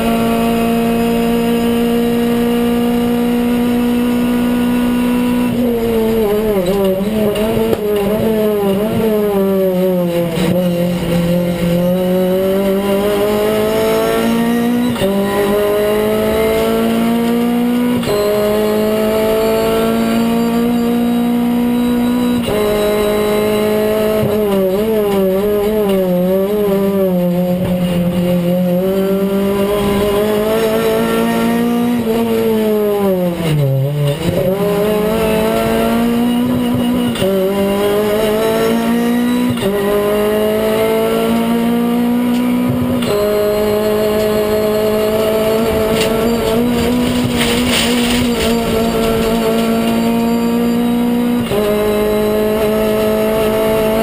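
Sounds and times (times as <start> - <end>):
race car engine with gear changes: 0.0 - 54.0.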